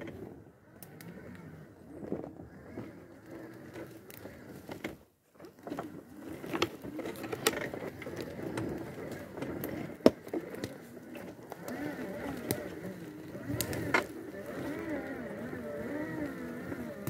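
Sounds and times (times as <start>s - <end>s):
wheelchair motor whine: 0.0s - 17.0s
wheels knocking over roots: 0.0s - 17.0s.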